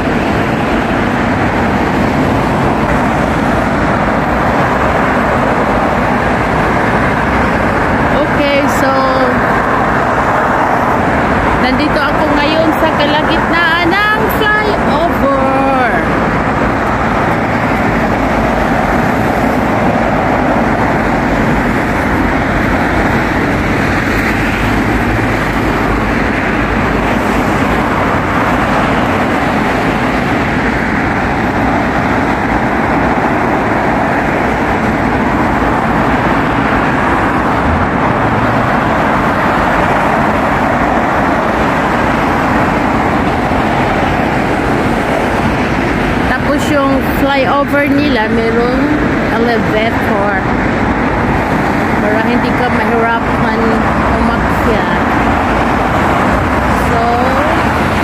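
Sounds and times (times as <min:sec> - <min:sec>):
heavy highway traffic: 0:00.0 - 0:58.0.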